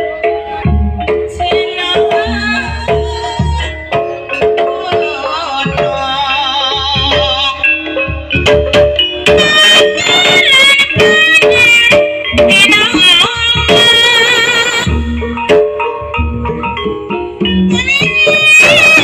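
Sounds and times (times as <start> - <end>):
mallet-struck pitched notes: 0.0 - 19.0
wavering high melody: 0.0 - 19.0.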